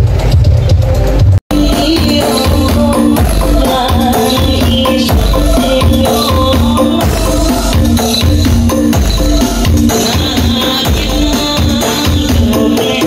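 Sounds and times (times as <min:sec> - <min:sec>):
loud dance music with heavy bass: 0:00.0 - 0:13.0.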